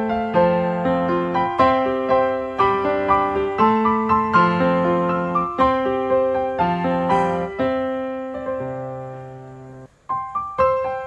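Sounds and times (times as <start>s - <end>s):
piano playing: 0.0s - 11.0s.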